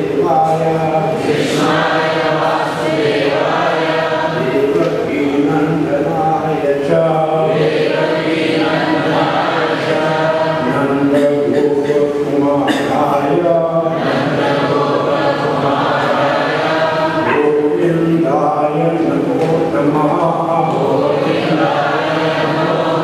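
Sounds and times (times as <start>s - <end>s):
group chanting devotional recitation: 0.0s - 23.0s.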